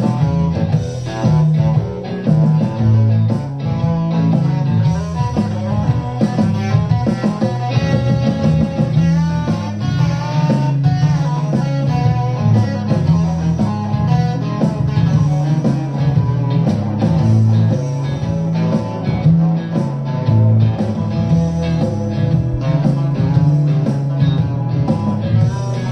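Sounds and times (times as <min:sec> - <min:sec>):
electric guitar improvising: 0:00.0 - 0:25.9.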